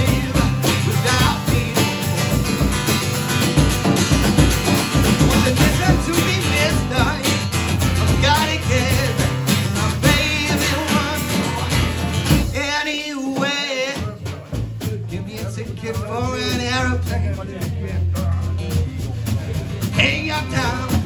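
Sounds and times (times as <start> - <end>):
man singing into a microphone: 0.0 - 2.7, 5.2 - 21.0
acoustic guitar: 0.0 - 21.0
drum kit playing: 0.0 - 21.0.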